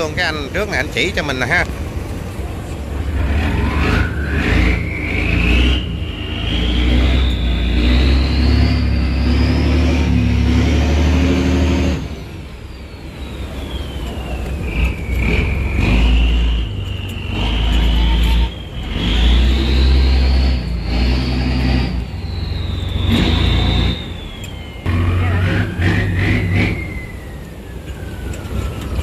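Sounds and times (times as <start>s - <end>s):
boat diesel engine surging: 0.0s - 29.0s
high engine whine: 0.0s - 29.0s.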